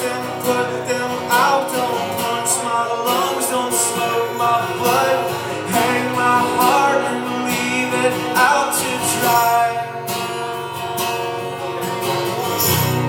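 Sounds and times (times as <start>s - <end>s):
man singing: 0.0s - 10.5s
acoustic guitar: 0.0s - 13.0s.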